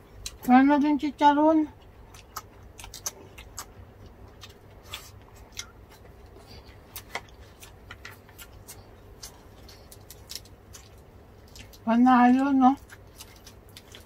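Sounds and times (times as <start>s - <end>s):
crunchy chewing: 1.7s - 11.9s, 12.6s - 14.0s.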